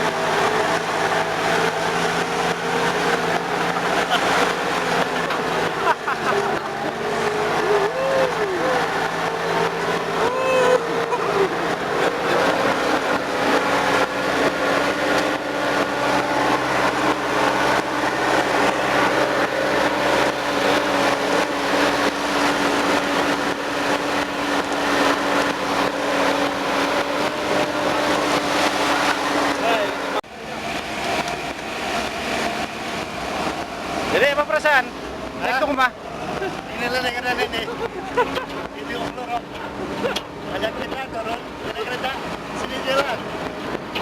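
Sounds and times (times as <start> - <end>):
engine running under load: 0.0 - 44.0.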